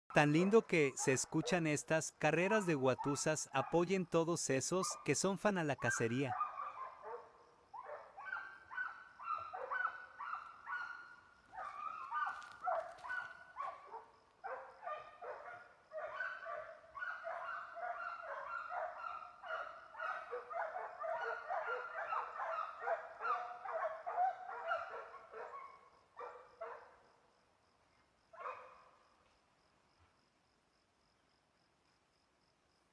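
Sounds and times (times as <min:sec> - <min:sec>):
hounds baying and barking: 0:00.4 - 0:04.0, 0:04.7 - 0:27.0, 0:28.3 - 0:29.0.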